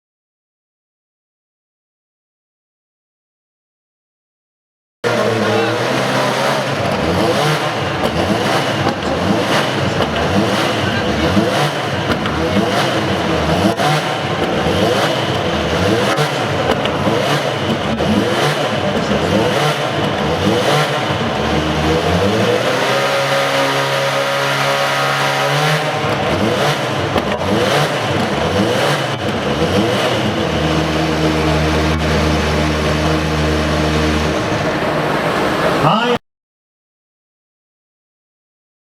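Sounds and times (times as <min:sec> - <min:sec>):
race car engine revving: 0:05.0 - 0:36.2.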